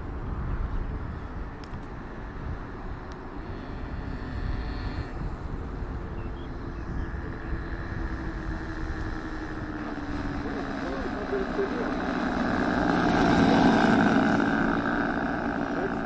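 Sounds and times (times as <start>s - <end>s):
wind rumble on microphone: 0.0s - 15.9s
model airplane motor: 0.6s - 16.0s.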